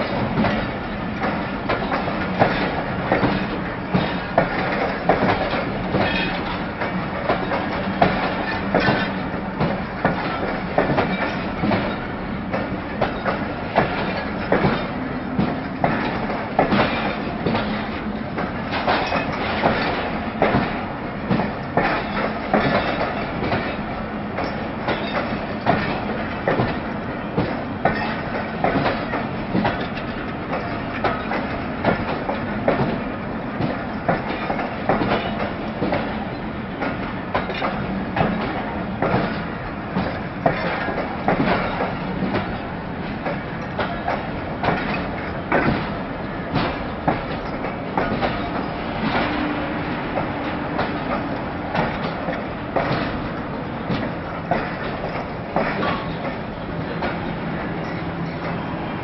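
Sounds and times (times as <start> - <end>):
train wheels clattering over joints: 0.0 - 59.0.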